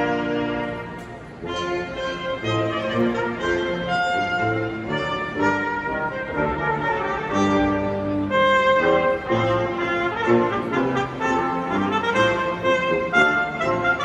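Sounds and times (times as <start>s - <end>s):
orchestral processional music: 0.0s - 14.0s.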